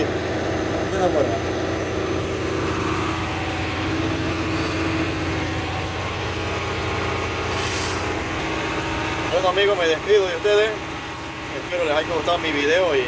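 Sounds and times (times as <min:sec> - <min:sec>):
heavy farm engine under load: 0:00.0 - 0:13.0.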